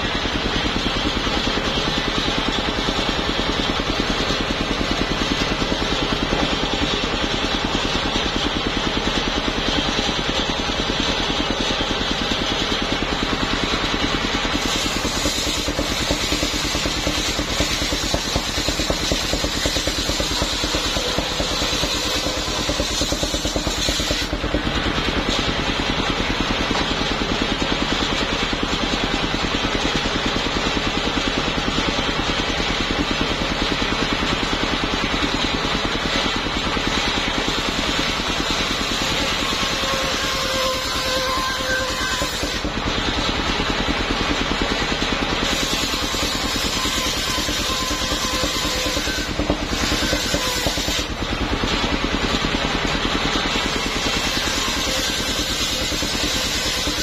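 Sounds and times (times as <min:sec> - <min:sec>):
saw blade spinning: 0:00.0 - 0:57.0
sawmill engine running: 0:00.0 - 0:57.0.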